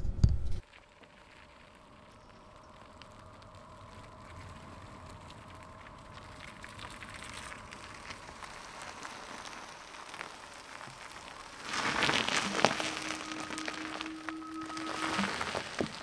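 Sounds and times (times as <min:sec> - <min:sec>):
faint steady hum: 0:00.0 - 0:16.0
tyres crackling over ground: 0:00.6 - 0:16.0.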